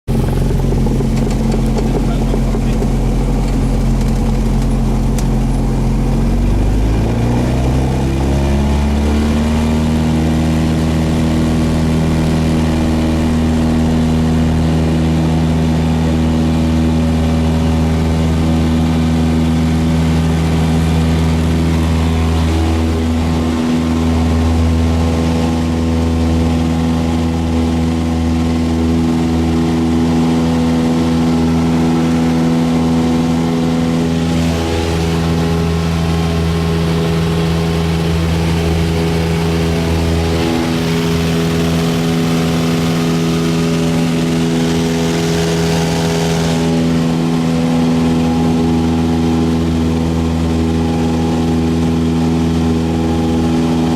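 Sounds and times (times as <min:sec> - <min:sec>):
propeller plane engine revving: 0:00.0 - 0:53.9.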